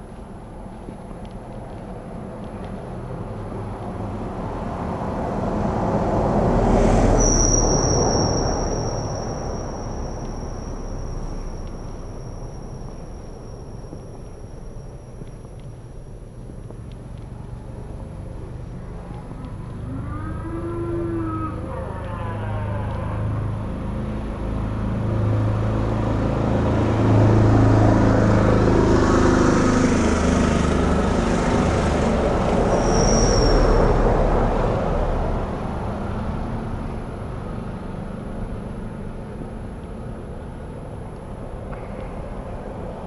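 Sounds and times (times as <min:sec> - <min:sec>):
vehicle engine and tyres passing: 0:00.0 - 0:43.0.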